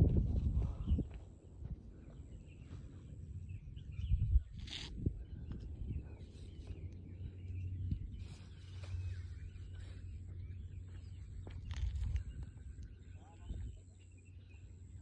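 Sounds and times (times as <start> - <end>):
wind buffeting microphone: 0.0 - 8.8, 10.3 - 13.8
faint bird chirps: 2.0 - 15.0.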